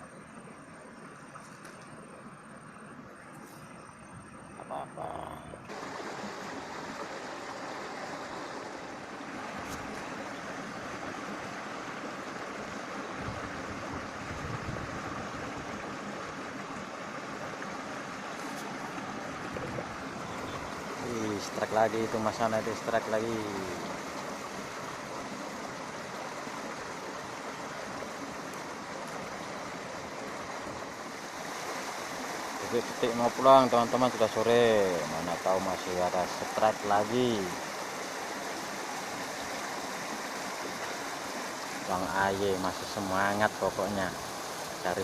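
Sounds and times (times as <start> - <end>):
running water rushing: 0.0 - 45.0.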